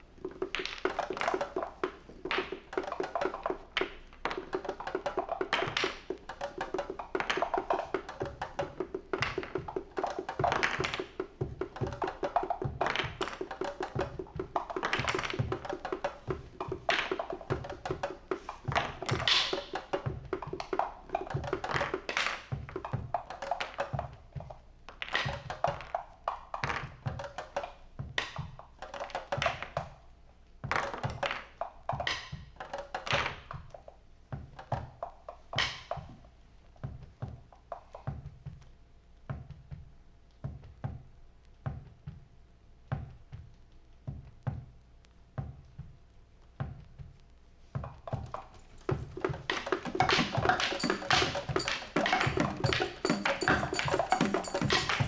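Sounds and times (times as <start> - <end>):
irregular drum and percussion hits: 0.0 - 55.0.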